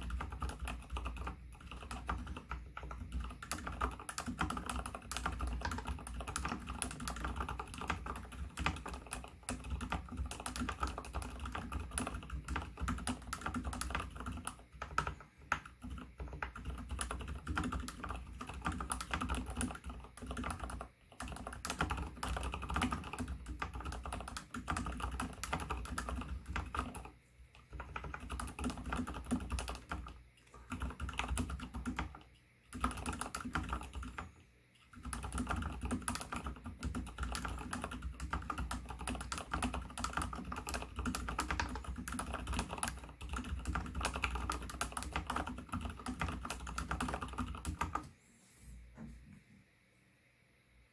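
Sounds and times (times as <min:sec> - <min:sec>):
fast typing on mechanical keyboard: 0:00.0 - 0:34.3, 0:34.9 - 0:48.1
fingernails clicking on keycaps: 0:00.0 - 0:34.3, 0:34.9 - 0:48.1.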